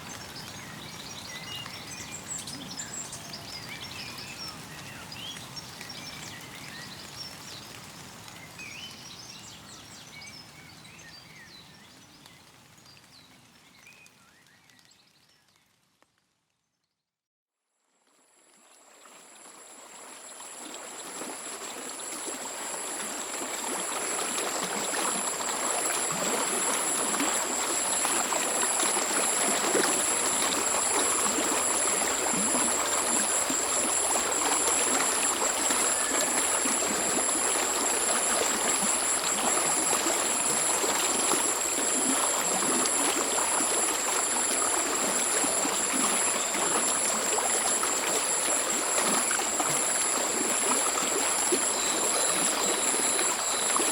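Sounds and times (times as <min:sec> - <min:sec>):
mountain stream trickling: 0:00.0 - 0:15.7, 0:18.0 - 0:53.9.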